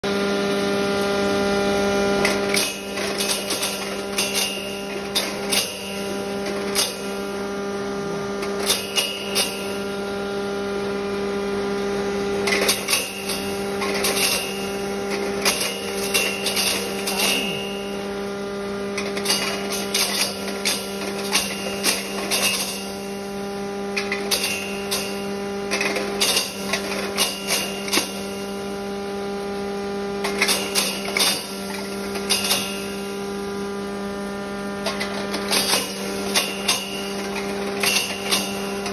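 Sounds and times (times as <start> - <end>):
grinder motor humming: 0.0 - 38.9
pieces clattering in grinder: 2.2 - 10.1, 12.4 - 29.5, 30.1 - 38.9.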